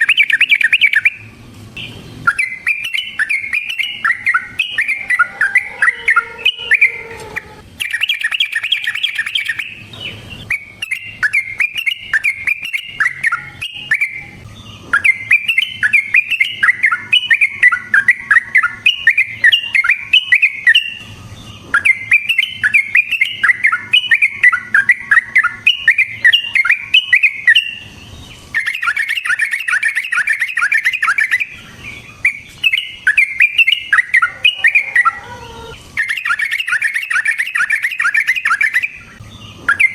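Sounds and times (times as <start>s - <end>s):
bird singing bubbly chatter: 0.0s - 39.9s.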